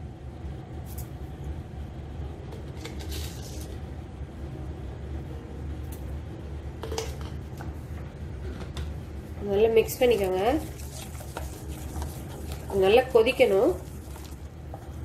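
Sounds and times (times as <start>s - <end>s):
low kitchen rumble: 0.0s - 15.0s.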